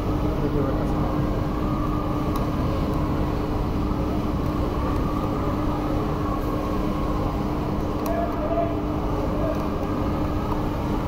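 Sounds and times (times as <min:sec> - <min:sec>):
constant low hum: 0:00.0 - 0:11.0
machine droning: 0:00.0 - 0:11.0.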